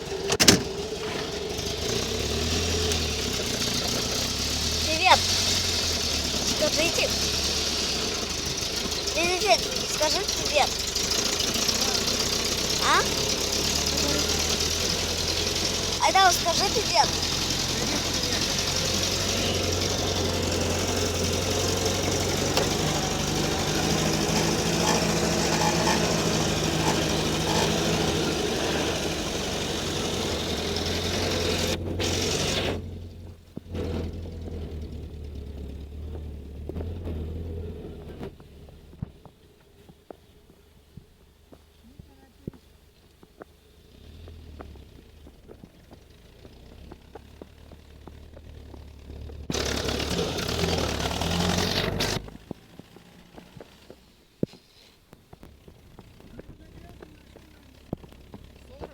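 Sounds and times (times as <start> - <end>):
engine running with low drone: 0.0 - 40.8, 41.5 - 54.2, 55.3 - 58.9.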